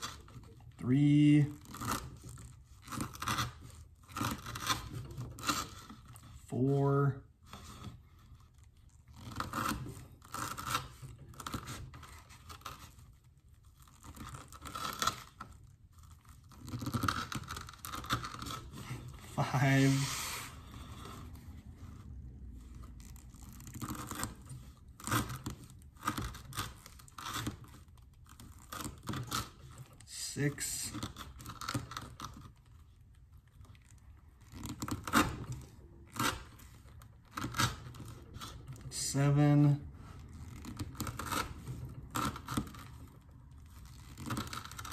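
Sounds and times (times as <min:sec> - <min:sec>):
knife sawing through rope: 0:00.0 - 0:06.8, 0:07.4 - 0:32.6, 0:34.5 - 0:44.9.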